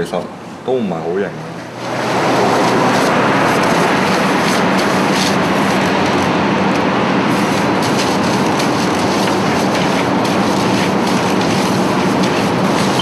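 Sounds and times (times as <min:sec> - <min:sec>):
loud rushing noise: 0:01.4 - 0:13.0.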